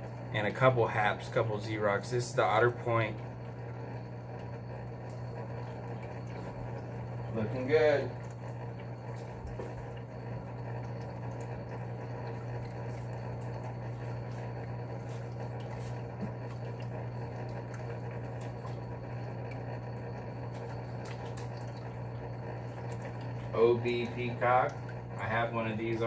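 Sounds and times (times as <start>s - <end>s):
aquarium water bubbling: 0.0s - 26.0s
pump humming: 0.0s - 26.0s.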